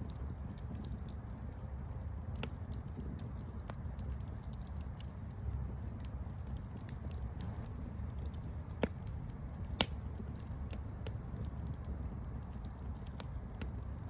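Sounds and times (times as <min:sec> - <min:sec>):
campfire burning: 0:00.0 - 0:14.0
fire crackling: 0:00.0 - 0:14.0
sharp pops of burning wood: 0:01.9 - 0:14.0.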